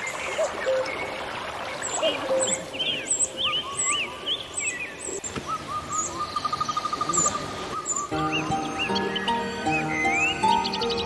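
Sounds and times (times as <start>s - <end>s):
birds chirping and whistling: 1.8s - 11.0s.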